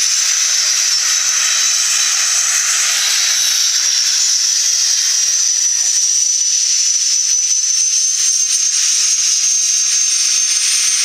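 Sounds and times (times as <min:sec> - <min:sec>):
jet engines hissing and whining: 0:00.0 - 0:11.0.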